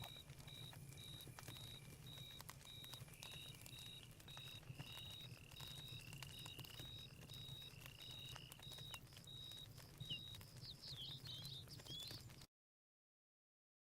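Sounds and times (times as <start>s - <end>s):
insects chirping: 0.0s - 11.6s
faint crackles: 0.0s - 12.5s.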